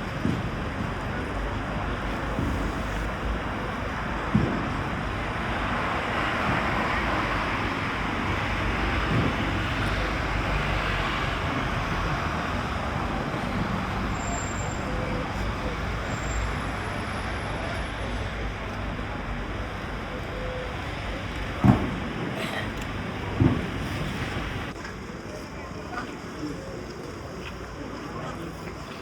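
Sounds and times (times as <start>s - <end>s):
passing cars: 0.0s - 24.8s.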